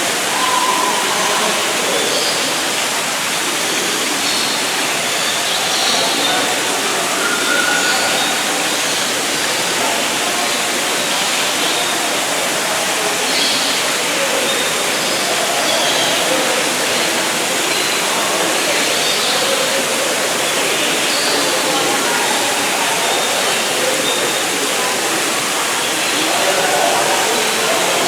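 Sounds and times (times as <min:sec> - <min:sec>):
faint distant voices: 0:00.0 - 0:28.0.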